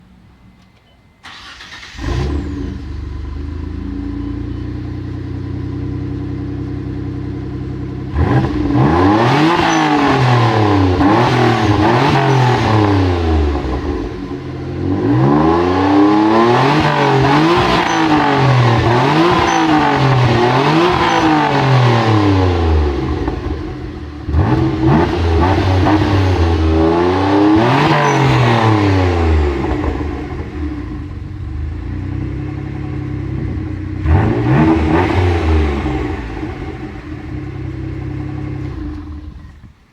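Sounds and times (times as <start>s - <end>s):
car engine idling: 0.0s - 15.0s, 16.9s - 39.9s
car engine starting: 0.0s - 39.9s
engine revving: 1.2s - 4.2s, 5.8s - 39.7s.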